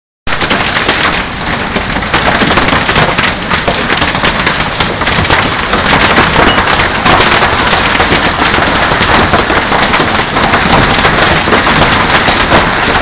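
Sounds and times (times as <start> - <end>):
hailstones clattering: 0.3 - 13.0
hiss of rain: 0.3 - 13.0.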